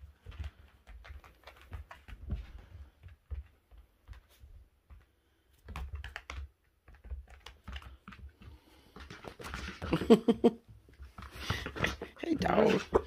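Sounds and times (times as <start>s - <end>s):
dog claws clicking on hard floor: 0.0s - 13.0s
dogs scuffling: 0.0s - 13.0s.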